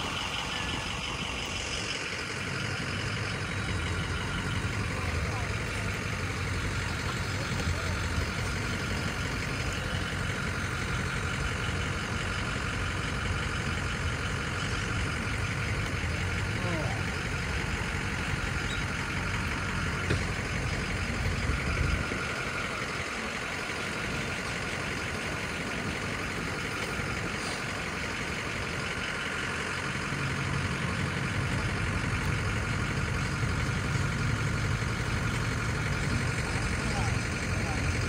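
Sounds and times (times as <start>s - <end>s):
engine idling: 0.0s - 38.0s.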